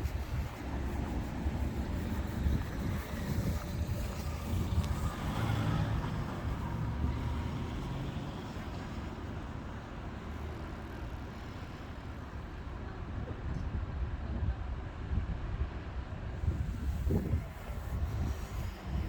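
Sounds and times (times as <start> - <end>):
wind buffeting microphone: 0.0 - 10.0, 12.6 - 19.0
low rumble of road traffic: 0.0 - 19.0.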